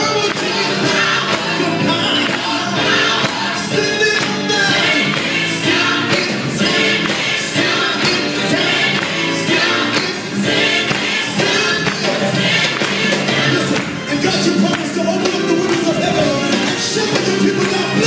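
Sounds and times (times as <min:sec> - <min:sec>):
choir singing gospel music: 0:00.0 - 0:18.0.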